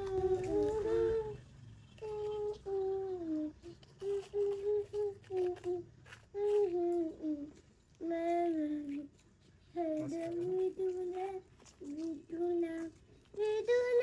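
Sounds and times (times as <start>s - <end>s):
child humming a tune: 0.0s - 1.4s, 2.0s - 14.0s.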